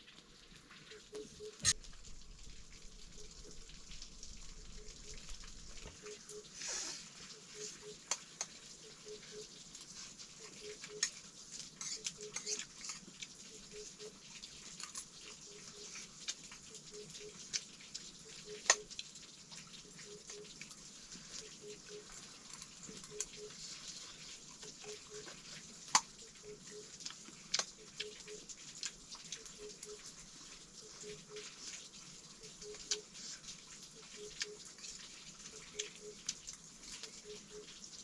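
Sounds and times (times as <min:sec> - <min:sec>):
rice sizzling in a hot pan: 0:00.0 - 0:38.0.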